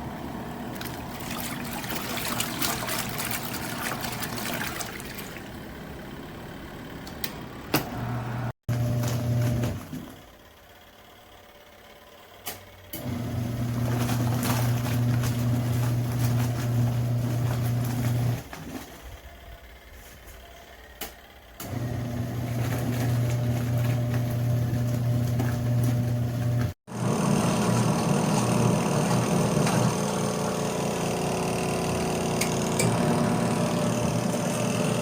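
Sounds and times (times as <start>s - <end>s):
washing machine motor humming: 0.0s - 10.8s, 12.9s - 35.0s.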